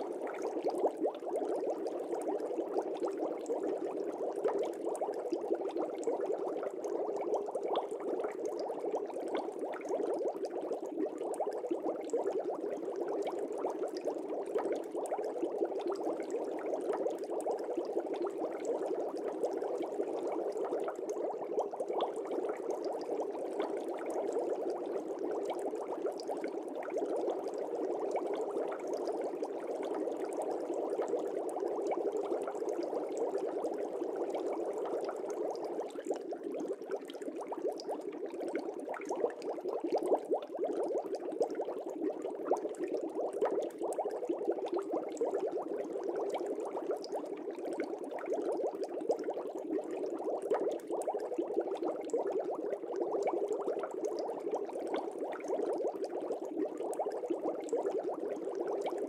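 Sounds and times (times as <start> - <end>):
aquarium air bubbles: 0.0 - 59.0.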